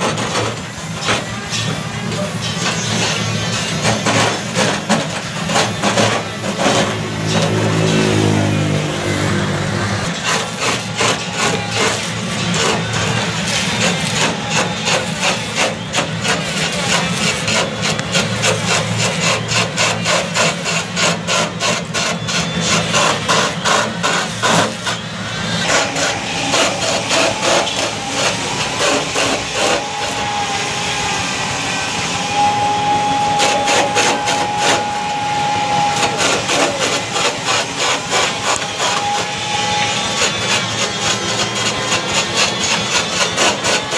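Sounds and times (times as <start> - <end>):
lathe cutter scraping wood: 0.0 - 43.9
lathe motor humming: 0.0 - 43.9.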